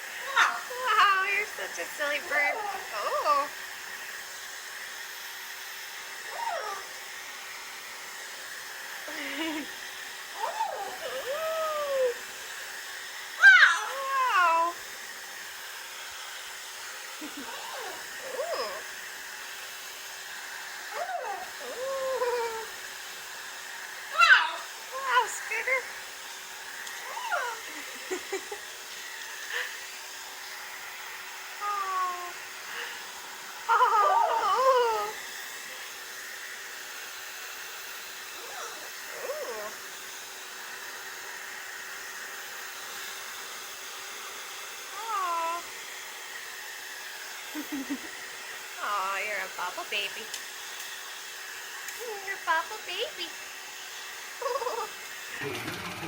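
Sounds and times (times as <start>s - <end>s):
appliance motor airflow: 0.0s - 56.0s.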